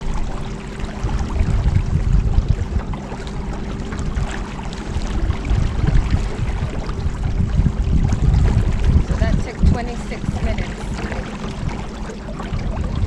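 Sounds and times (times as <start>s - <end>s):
water lapping at hull: 0.0s - 13.0s
wind rumble on microphone: 0.0s - 13.0s.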